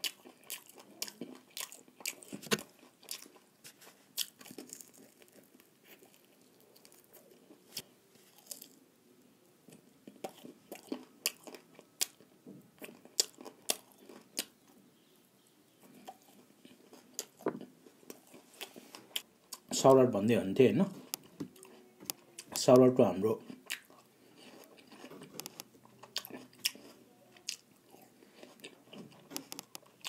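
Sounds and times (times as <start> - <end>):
crunchy chewing: 0.0 - 8.8, 9.7 - 14.7, 15.8 - 19.7, 23.4 - 30.0.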